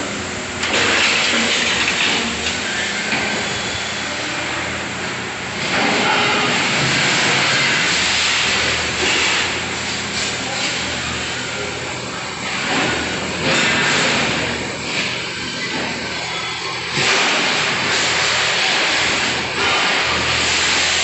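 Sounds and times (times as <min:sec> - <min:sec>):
machinery humming: 0:00.0 - 0:21.0.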